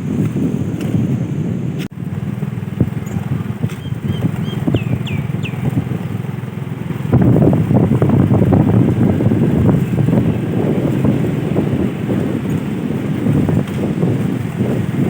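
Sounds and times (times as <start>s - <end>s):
motor engine running: 2.0s - 15.0s.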